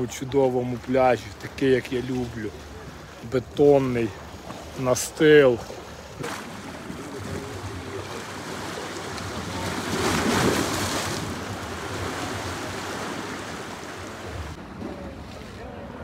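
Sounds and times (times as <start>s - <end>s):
sea waves washing ashore: 0.0s - 16.0s.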